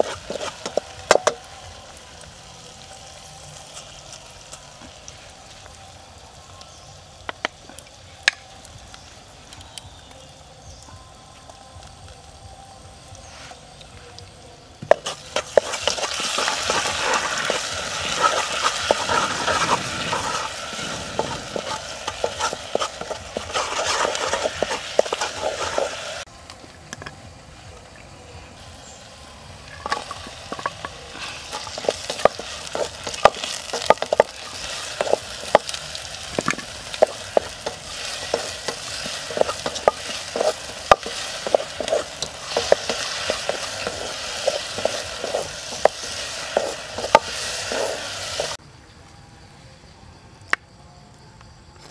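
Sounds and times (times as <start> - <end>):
garlic sizzling in hot oil: 0.0 - 11.0, 13.0 - 26.3, 28.6 - 48.6.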